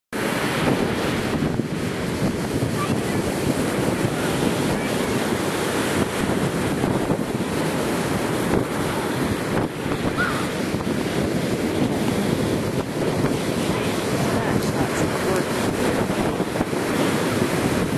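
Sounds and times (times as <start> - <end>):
ocean surf washing in: 0.2 - 17.9
wind on microphone: 0.2 - 17.9.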